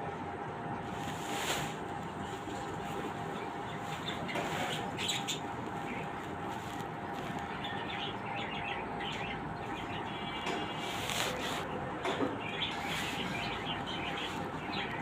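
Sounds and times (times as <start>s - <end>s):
steady background hum: 0.0s - 15.0s
small birds chirping: 0.8s - 15.0s.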